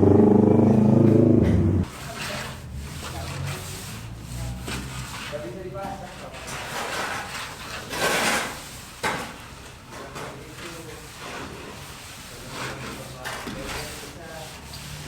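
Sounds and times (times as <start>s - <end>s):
scraping on building materials: 0.4s - 9.3s, 9.9s - 15.0s.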